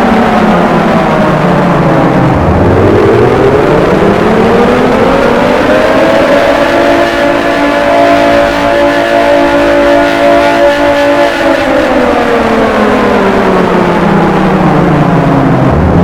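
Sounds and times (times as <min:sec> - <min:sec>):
warning siren wailing: 0:00.0 - 0:16.0.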